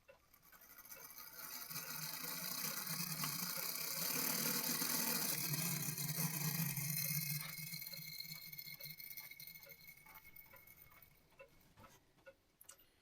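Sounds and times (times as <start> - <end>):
clock gear train whirring: 0.0 - 11.9.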